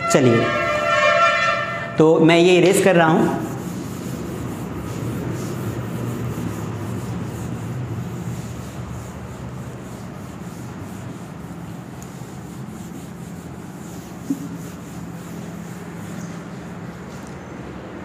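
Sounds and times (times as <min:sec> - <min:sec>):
duster scrubbing whiteboard: 0:02.3 - 0:17.6.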